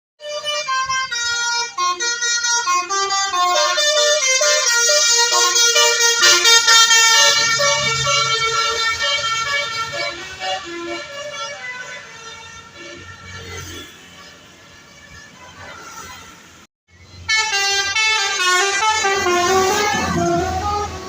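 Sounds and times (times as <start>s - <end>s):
bus musical horn playing tune: 0.2s - 16.5s, 17.2s - 21.0s.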